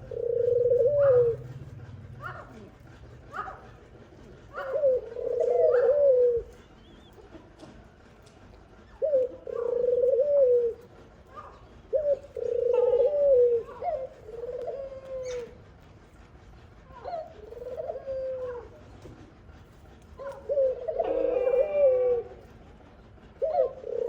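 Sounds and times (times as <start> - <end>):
dove cooing: 0.0 - 7.4, 8.8 - 15.6, 16.9 - 19.1, 20.2 - 24.0.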